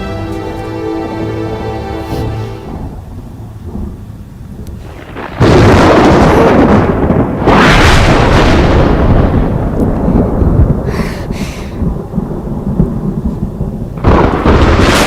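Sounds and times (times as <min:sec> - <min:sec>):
thunder rumbling: 0:00.0 - 0:15.0
loud thunderclap: 0:02.2 - 0:15.0.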